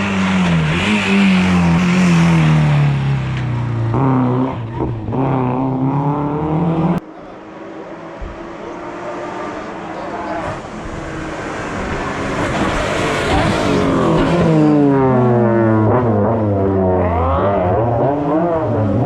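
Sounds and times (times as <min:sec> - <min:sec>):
race car engine passing at full throttle: 0:00.0 - 0:19.0.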